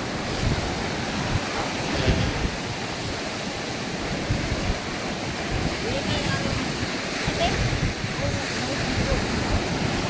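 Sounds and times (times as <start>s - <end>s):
sea waves washing on a beach: 0.0s - 10.0s
wind buffeting the microphone: 0.0s - 10.0s.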